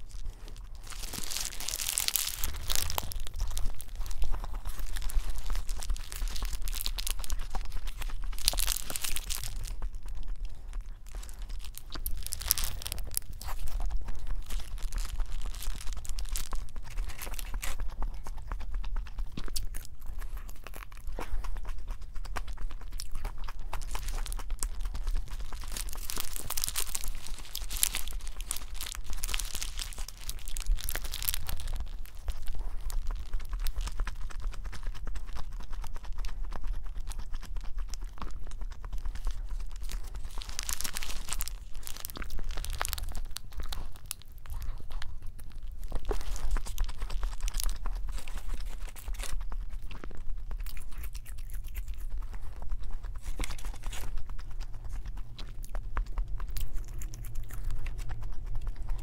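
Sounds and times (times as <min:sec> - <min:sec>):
paper wrapper crinkling: 0:00.0 - 0:18.4, 0:22.1 - 0:55.2
biting and chewing: 0:00.0 - 0:59.0.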